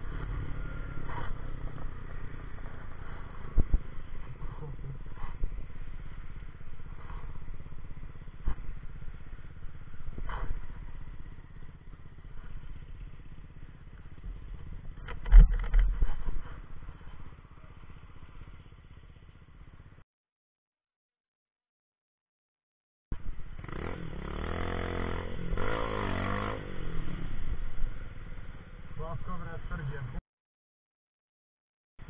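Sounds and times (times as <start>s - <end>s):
motorcycle engine rumbling: 0.0s - 20.0s, 23.2s - 30.2s.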